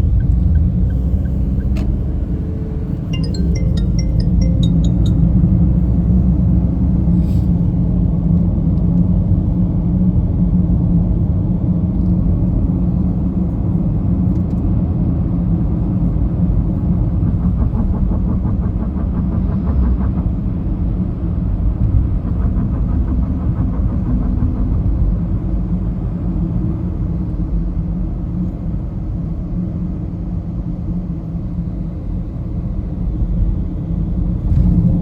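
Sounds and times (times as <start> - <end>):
road noise: 0.0 - 29.6
vehicle engine hum: 0.0 - 35.0.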